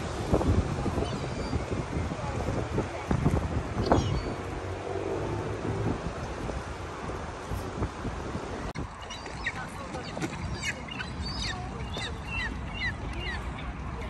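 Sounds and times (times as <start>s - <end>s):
waterbirds calling: 0.0s - 14.0s
wind rumble on microphone: 0.0s - 14.0s.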